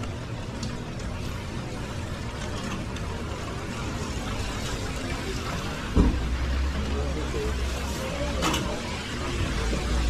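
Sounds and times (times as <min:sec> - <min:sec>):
rain on a wet street: 0:00.0 - 0:10.0.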